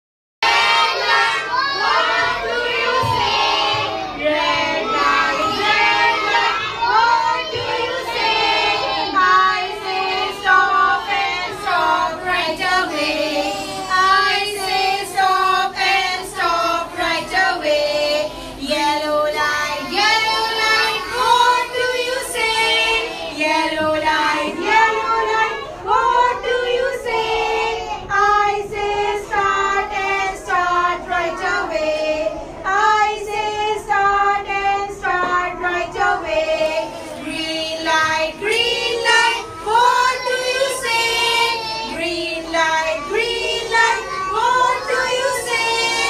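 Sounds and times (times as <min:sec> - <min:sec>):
children singing a rhyme: 0:00.4 - 0:46.0
women singing: 0:00.4 - 0:46.0.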